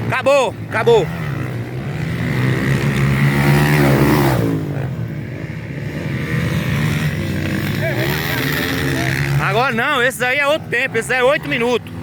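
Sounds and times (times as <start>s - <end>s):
motocross bike engines running: 0.0s - 12.0s
motorbike passing close: 0.0s - 12.0s.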